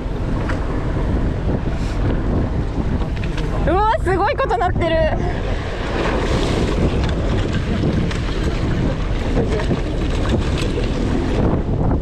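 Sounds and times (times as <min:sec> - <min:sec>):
rough sea rushing: 0:00.0 - 0:12.0
water splashes: 0:00.0 - 0:12.0
wind buffeting microphone: 0:00.0 - 0:12.0.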